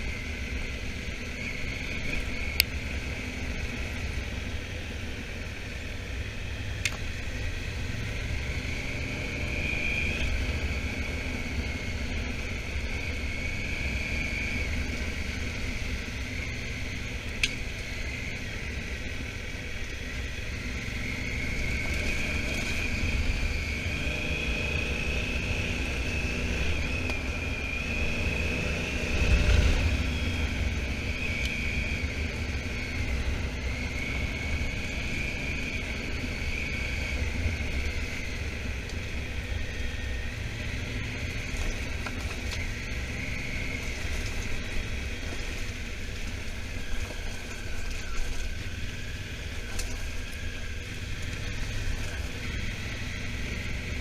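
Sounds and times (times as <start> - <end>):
motorcycle engine rumble: 0.0 - 54.0.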